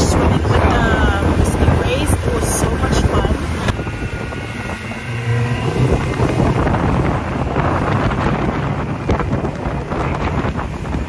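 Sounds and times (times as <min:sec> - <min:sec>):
motorboat engine rumble: 0:00.0 - 0:11.0
wind buffeting microphone: 0:00.0 - 0:11.0.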